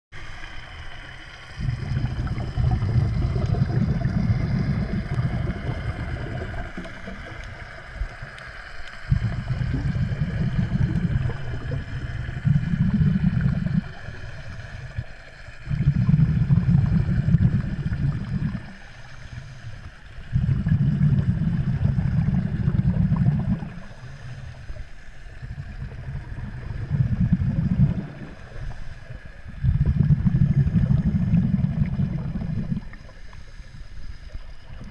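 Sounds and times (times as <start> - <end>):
faint steady hum: 0.2 - 34.9
underwater exhaled bubbles rumbling: 0.2 - 34.9.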